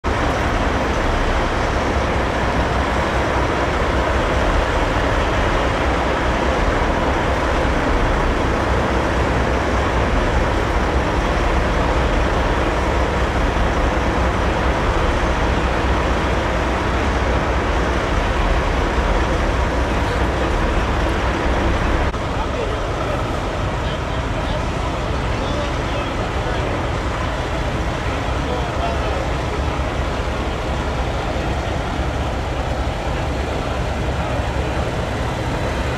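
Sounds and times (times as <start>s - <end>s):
diesel truck engines rumbling: 0.0s - 35.9s.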